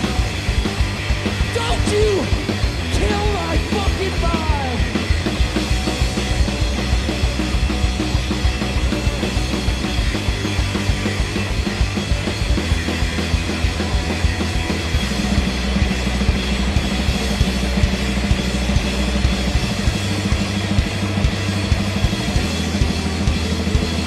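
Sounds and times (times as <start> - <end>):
drum kit: 0.0 - 24.0
electric bass: 0.0 - 24.0
electric guitar: 0.0 - 24.0.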